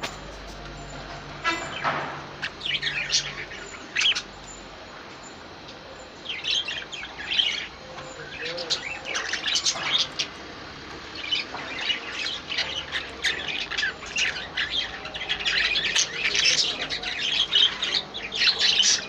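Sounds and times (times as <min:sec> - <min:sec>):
cage birds chirping: 0:00.0 - 0:19.0.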